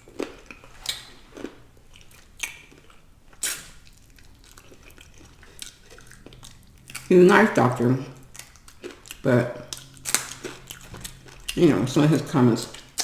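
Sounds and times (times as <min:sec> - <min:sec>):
person chewing food: 0:00.0 - 0:07.1, 0:07.9 - 0:13.0.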